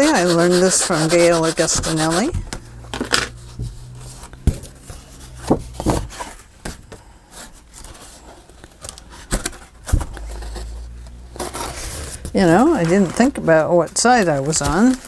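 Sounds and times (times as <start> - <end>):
paper rustling and scraping: 0.0 - 15.0.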